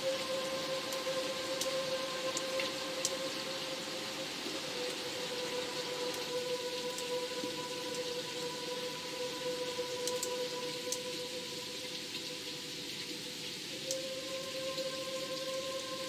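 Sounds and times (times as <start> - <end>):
ambient music drone: 0.0 - 16.0
steady rain falling: 0.0 - 16.0.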